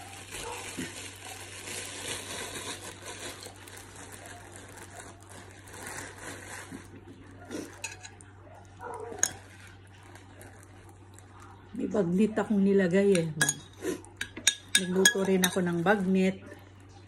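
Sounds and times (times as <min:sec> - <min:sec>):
plastic bread bag rustling: 0:00.0 - 0:13.4, 0:14.8 - 0:17.0.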